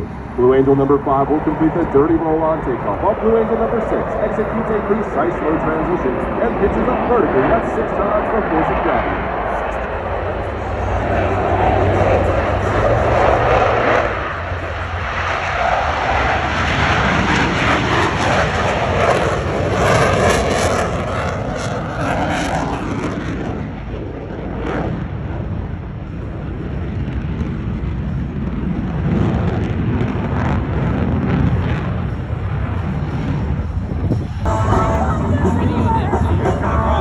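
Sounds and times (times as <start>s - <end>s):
jet passing whoosh: 0.0s - 37.0s
jet roar: 0.0s - 37.0s.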